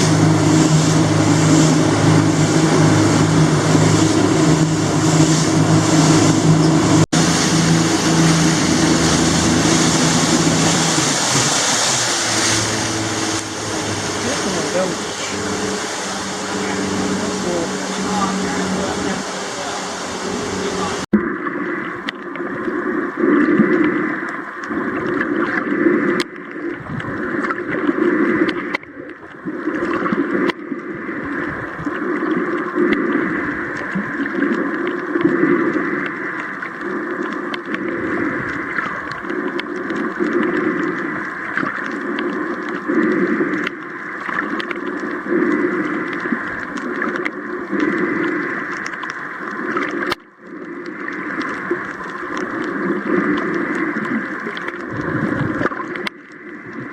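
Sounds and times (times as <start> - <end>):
boat motor running: 0.0 - 56.9
rushing water noise: 0.0 - 56.9.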